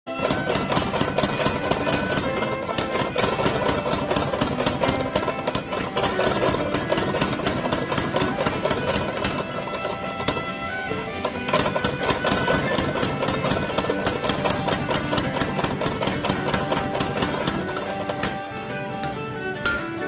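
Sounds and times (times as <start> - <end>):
music playing: 0.1 - 20.0
power hammer pounding steel: 0.1 - 20.0.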